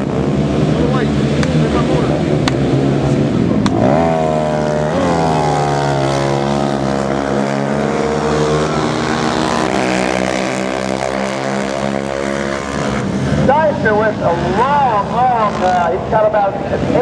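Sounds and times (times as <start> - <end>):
quad engine revving by: 0.0 - 16.0.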